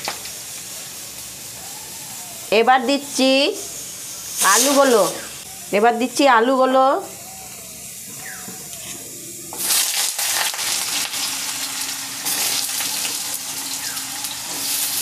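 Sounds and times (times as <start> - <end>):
potatoes sizzling in hot oil: 0.0 - 7.2, 7.9 - 15.0.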